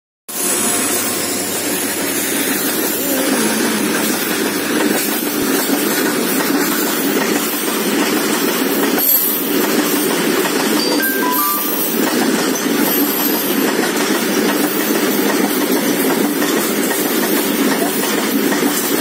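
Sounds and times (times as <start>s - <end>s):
diesel locomotive passing: 0.3s - 19.0s
train wheels on rail: 0.3s - 19.0s.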